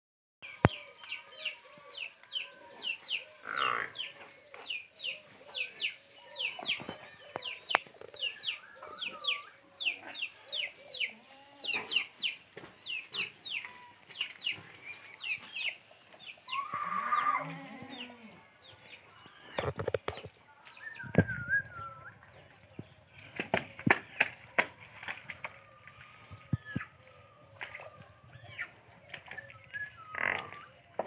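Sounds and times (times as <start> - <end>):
chickens clucking: 0.4 - 31.0.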